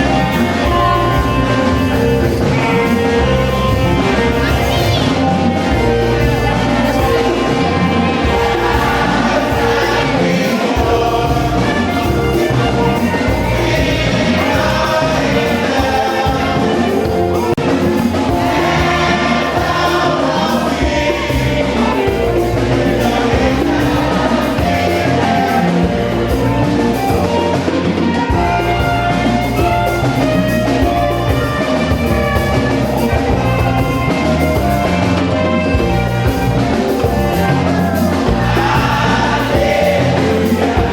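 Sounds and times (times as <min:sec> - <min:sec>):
gospel choir singing over a beat: 0:00.0 - 0:40.9.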